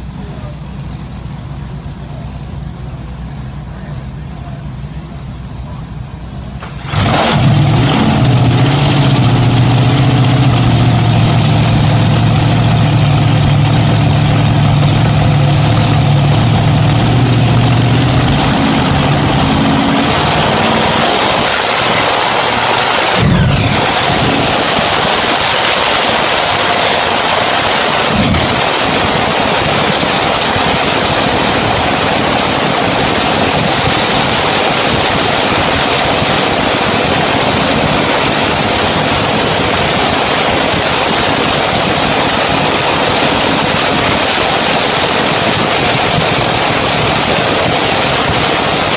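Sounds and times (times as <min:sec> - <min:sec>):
tractor engines running loudly: 0:00.0 - 0:48.9.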